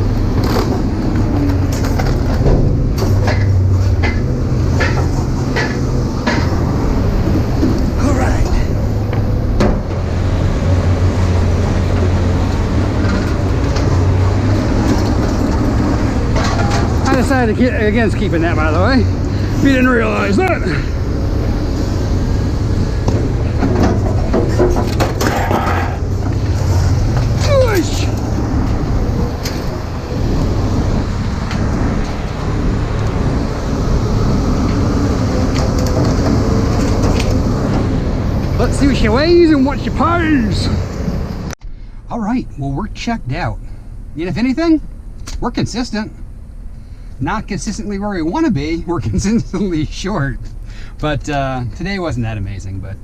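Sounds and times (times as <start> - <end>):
vehicle rumble with road noise: 0.0 - 53.0.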